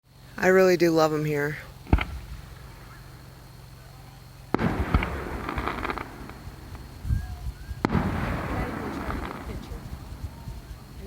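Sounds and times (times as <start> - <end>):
firework crackling: 0.4 - 11.0
firework bangs: 1.7 - 11.0.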